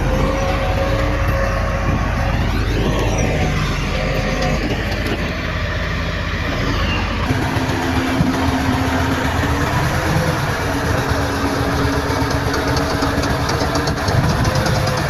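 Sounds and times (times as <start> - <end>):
heavy machinery diesel engines: 0.0 - 15.0.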